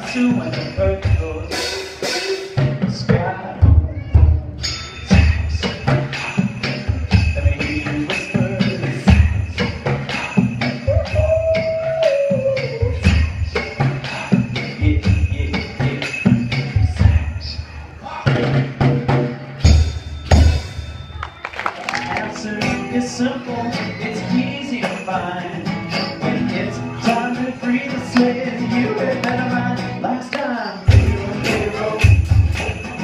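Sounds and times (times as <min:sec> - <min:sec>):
jingling and clacking percussion: 0:00.0 - 0:02.6, 0:04.5 - 0:17.6, 0:19.6 - 0:33.0.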